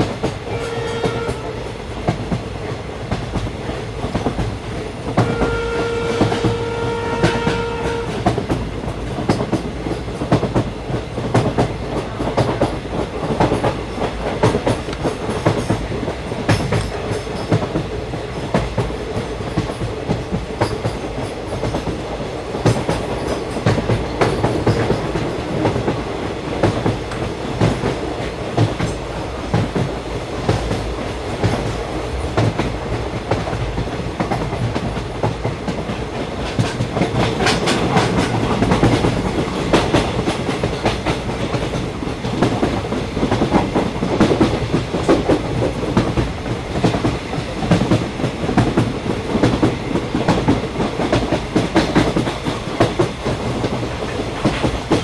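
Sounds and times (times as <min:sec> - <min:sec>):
train rumbling inside carriage: 0:00.0 - 0:55.0.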